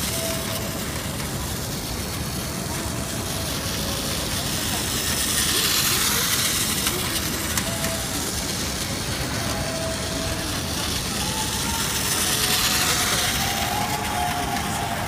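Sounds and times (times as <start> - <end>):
city street noise: 0.0 - 15.0
toy train whirring rattle: 0.0 - 15.0.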